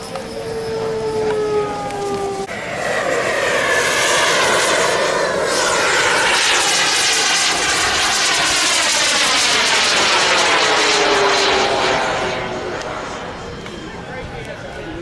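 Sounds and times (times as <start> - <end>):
model airplane engine flying past: 0.0 - 15.0.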